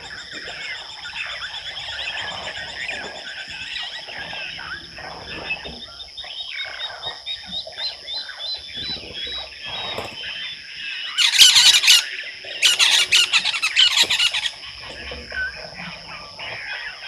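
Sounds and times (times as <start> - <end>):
birds calling and chirping: 0.0 - 17.0.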